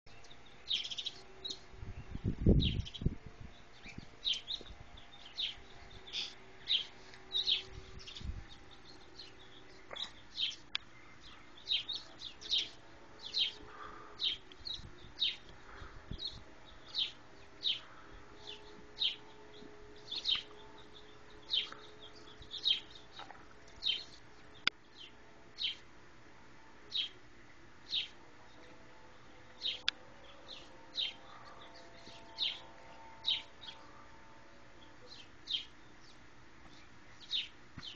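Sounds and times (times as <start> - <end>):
songbird chirping: 0.1 - 25.9, 26.6 - 37.9.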